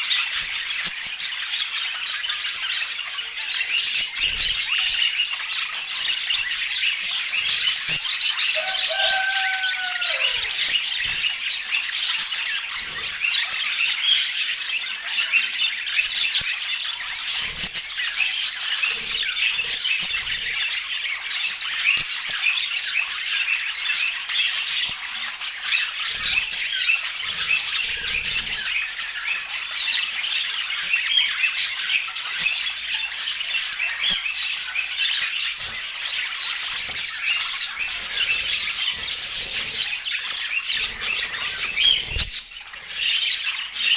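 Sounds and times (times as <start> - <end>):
budgerigars chattering: 0.0 - 43.9.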